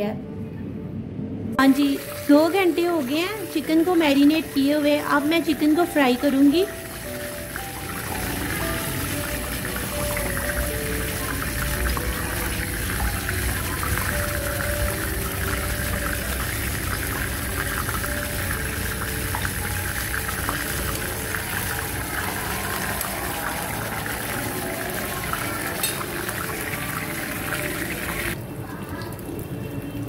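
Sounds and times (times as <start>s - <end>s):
chicken sizzling in oil: 1.6s - 29.1s.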